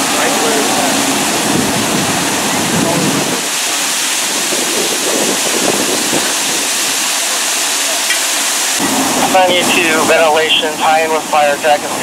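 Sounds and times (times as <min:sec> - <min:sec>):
water jetting at high pressure: 0:00.0 - 0:12.0.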